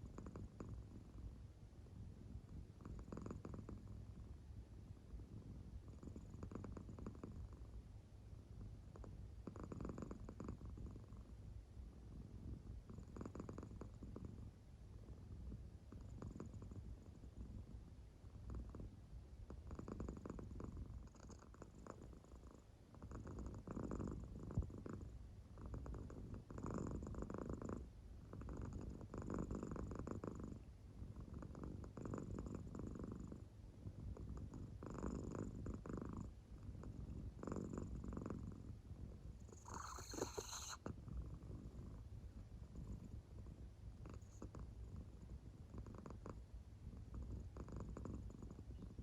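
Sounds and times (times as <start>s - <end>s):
cat purring and snoring: 0.0s - 1.3s, 2.2s - 4.3s, 5.2s - 7.8s, 8.5s - 11.3s, 12.0s - 17.7s, 18.3s - 49.0s.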